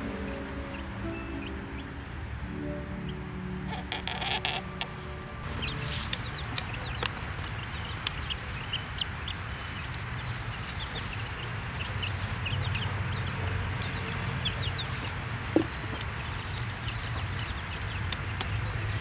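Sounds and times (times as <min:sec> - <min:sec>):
steady low rumble: 0:00.0 - 0:17.8
baby chicks peeping: 0:00.0 - 0:19.0.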